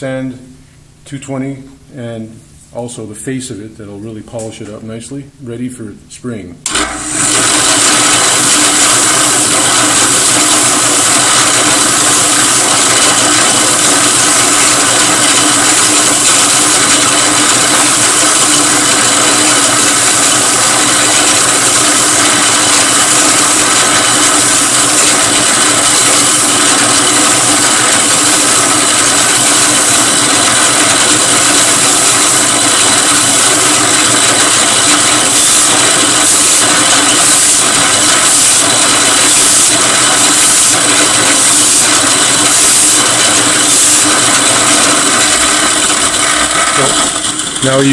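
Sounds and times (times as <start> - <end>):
drill press sanding wood: 6.7 - 47.9.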